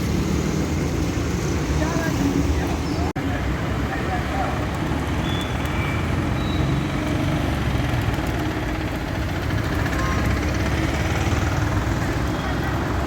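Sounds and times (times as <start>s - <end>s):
vehicle engines idling: 0.0s - 13.0s.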